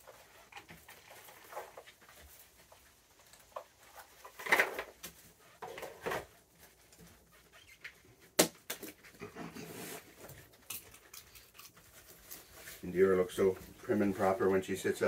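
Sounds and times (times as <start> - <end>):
raccoons scuffling and rustling: 0.0 - 15.0.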